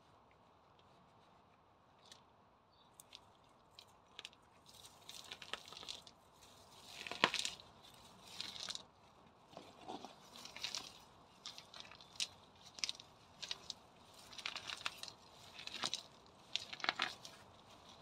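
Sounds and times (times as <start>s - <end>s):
weeds pulled from gravel: 3.0s - 18.0s.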